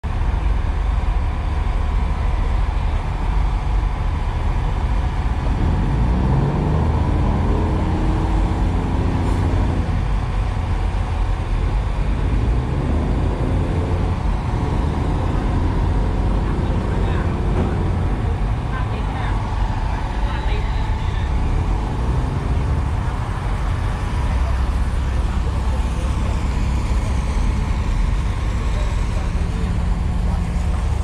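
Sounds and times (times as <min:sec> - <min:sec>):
engine running low rumble: 0:00.0 - 0:31.0.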